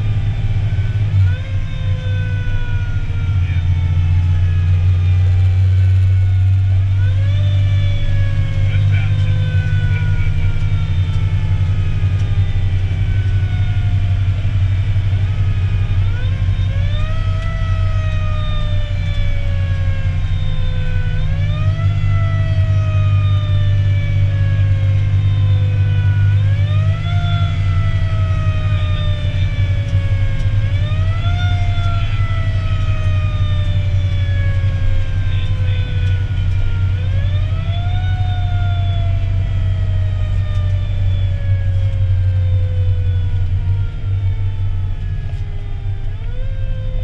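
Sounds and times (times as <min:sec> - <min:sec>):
engine and road drone: 0:00.0 - 0:47.0
fire engine siren: 0:00.0 - 0:47.0.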